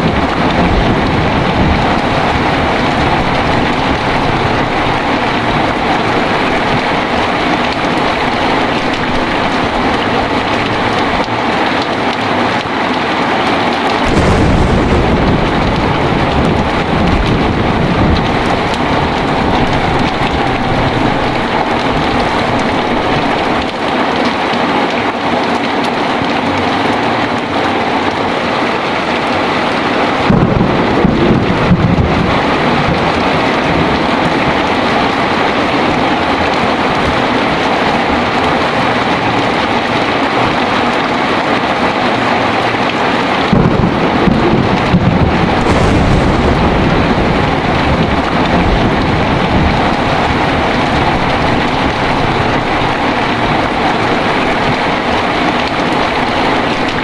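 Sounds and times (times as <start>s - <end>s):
strong wind: 0.0s - 12.0s, 13.7s - 24.2s, 28.7s - 57.0s
thunder rumbling: 0.0s - 12.1s, 13.4s - 24.4s, 27.8s - 57.0s
heavy rain pouring: 0.0s - 57.0s.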